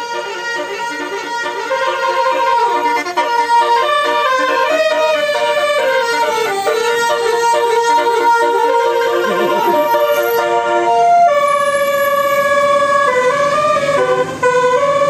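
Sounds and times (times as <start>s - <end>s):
multi-tone air horn melody: 0.0s - 15.0s.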